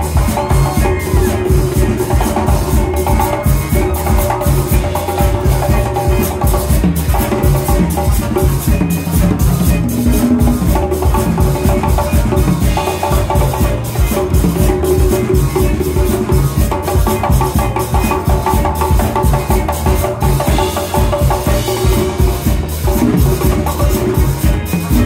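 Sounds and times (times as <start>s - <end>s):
congas hand-drummed: 0.0s - 25.0s
electric bass: 0.0s - 25.0s
electric guitar: 0.0s - 25.0s.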